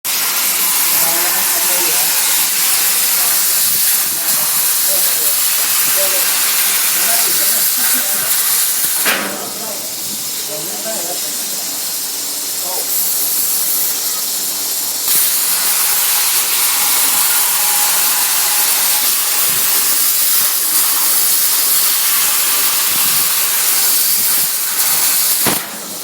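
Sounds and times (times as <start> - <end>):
plasma cutter hissing: 0.1 - 26.0.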